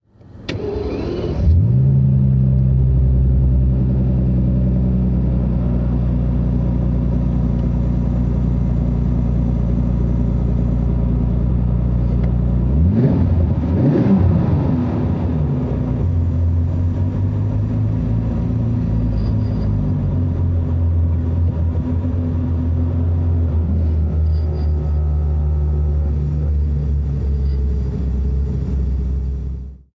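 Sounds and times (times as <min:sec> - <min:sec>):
car engine starting and idling: 0:00.1 - 0:29.9.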